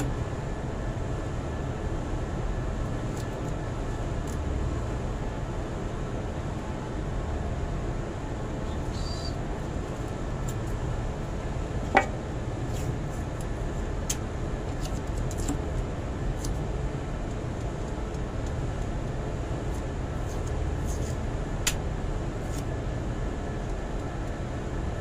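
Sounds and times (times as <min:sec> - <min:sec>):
low mechanical rumble: 0:00.0 - 0:25.0.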